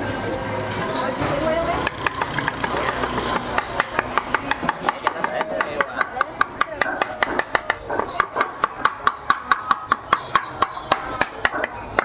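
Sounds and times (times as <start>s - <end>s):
rapid sharp ringing knocks: 1.8s - 12.0s.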